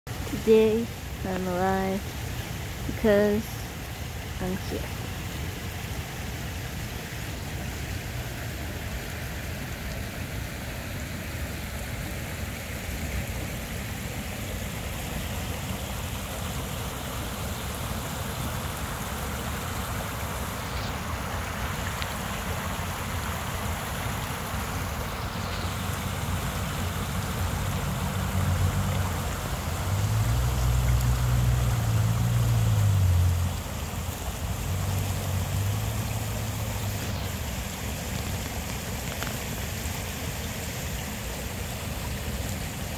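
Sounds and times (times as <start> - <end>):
creek water running over rocks: 0.1 - 42.9.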